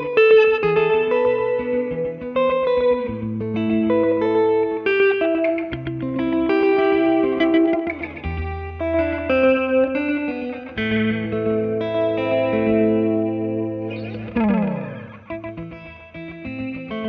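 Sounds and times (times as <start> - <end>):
surf electric guitar with echo: 0.0 - 17.0.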